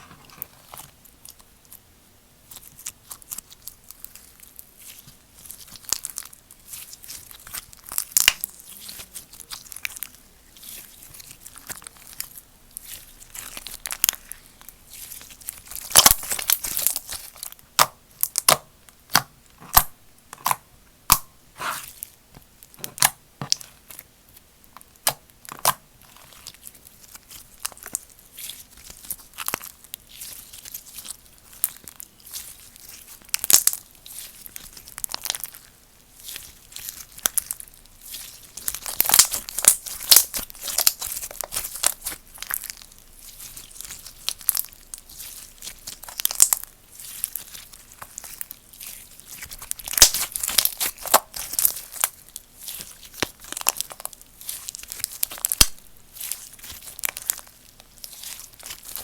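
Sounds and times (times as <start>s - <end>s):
slime popping and crackling: 2.5s - 22.0s, 24.8s - 59.0s.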